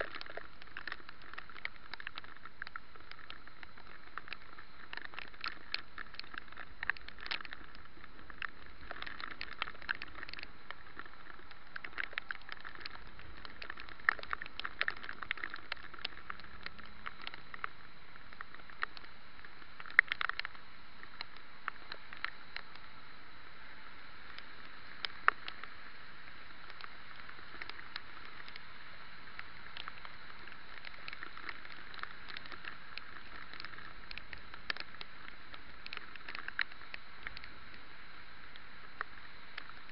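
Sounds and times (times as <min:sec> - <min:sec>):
raindrops tapping on camera: 0:00.0 - 0:39.9
steady rain hiss: 0:00.0 - 0:39.9.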